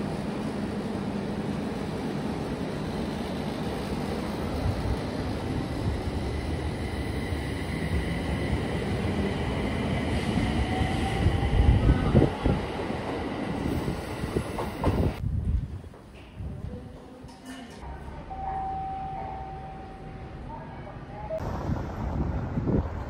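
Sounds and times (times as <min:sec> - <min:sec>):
electric train rumbling: 0:00.0 - 0:16.8, 0:17.9 - 0:23.0.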